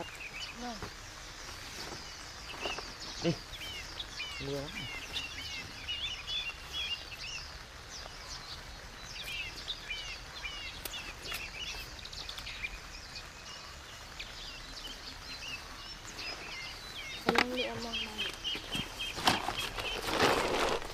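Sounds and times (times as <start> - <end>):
heavy rain hissing: 0.0 - 20.9
small birds chirping: 0.0 - 20.9.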